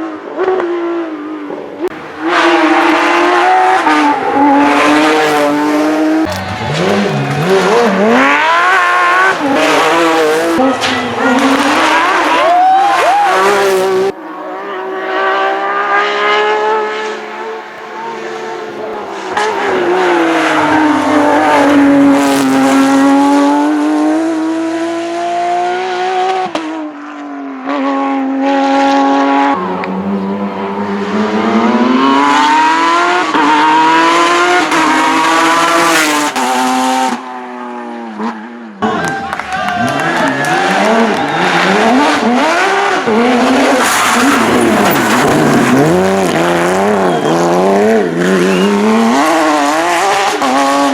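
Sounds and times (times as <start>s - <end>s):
car engine revving hard: 1.9s - 26.8s, 27.7s - 37.2s, 39.8s - 50.9s.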